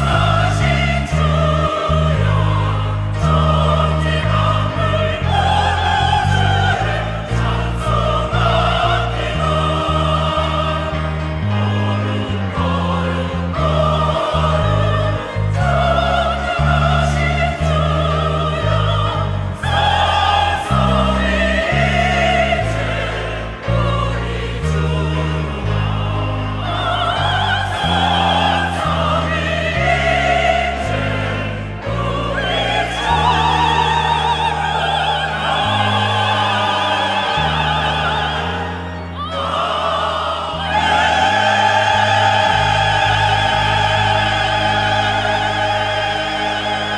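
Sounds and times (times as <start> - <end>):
church choir singing: 0.0 - 46.9.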